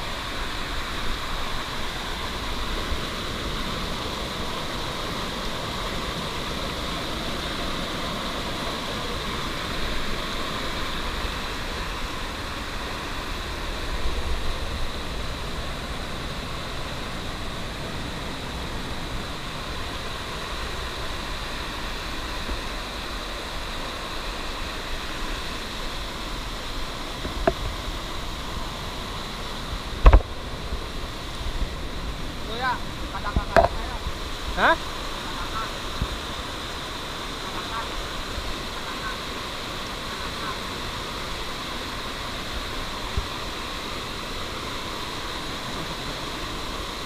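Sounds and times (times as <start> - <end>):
whitewater rushing over rocks: 0.0 - 47.0.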